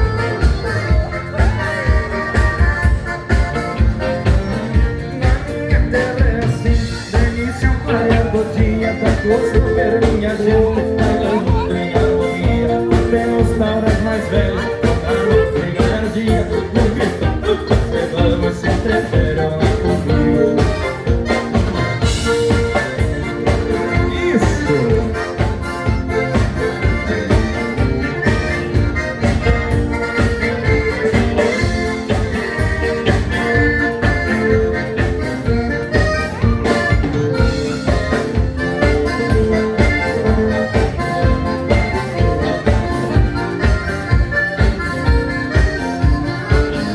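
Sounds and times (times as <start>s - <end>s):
accordion: 0.0s - 46.9s
dance band playing: 0.0s - 46.9s.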